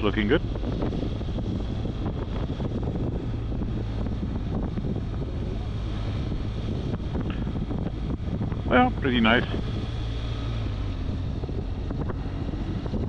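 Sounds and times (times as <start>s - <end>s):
motorcycle engine running: 0.0s - 13.0s
wind on microphone: 0.0s - 13.0s.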